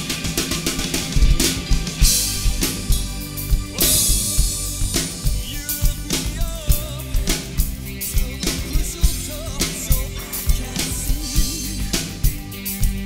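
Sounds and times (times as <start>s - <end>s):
kick and snare groove: 0.0s - 13.0s
rock backing track: 0.0s - 13.0s.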